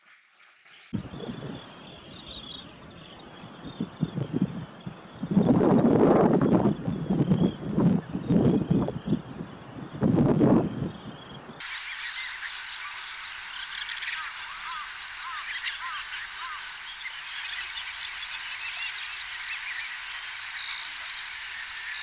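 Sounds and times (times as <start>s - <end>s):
background hiss: 0.0s - 22.0s
birds chirping: 0.8s - 22.0s.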